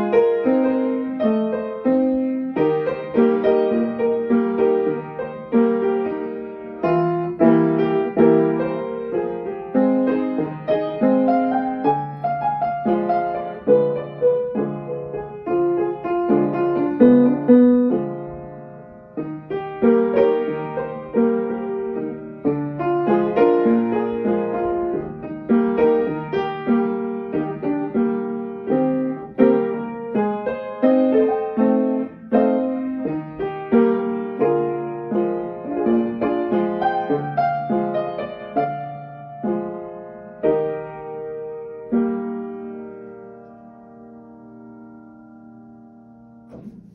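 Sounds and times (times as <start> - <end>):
upright piano playing: 0.0 - 46.9.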